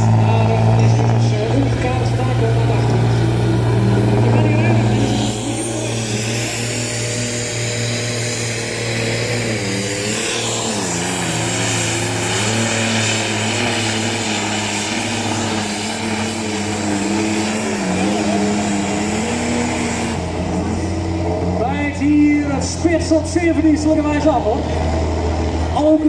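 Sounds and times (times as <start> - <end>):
diesel truck engine under load: 0.0 - 26.0.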